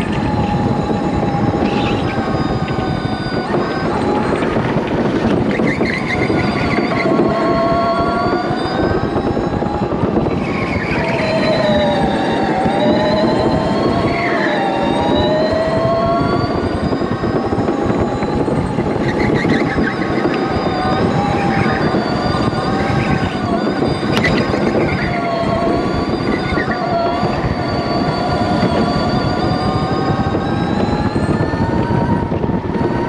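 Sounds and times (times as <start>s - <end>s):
electric go-kart motor whining: 0.0s - 33.0s.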